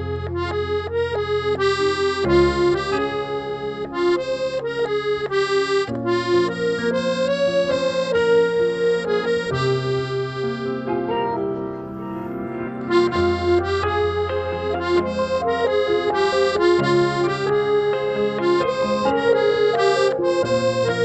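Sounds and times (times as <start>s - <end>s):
piano accordion melody: 0.0s - 21.0s.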